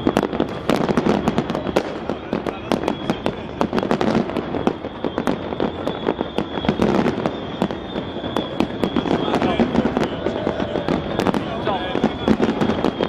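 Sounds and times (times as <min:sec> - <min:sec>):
continuous noisy background: 0:00.0 - 0:13.0
fireworks cracks and bangs: 0:00.0 - 0:13.0.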